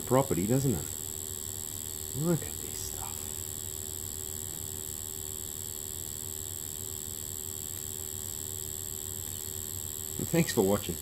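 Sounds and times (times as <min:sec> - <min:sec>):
electrical hum: 0:00.0 - 0:11.0
faint high whine: 0:00.0 - 0:11.0.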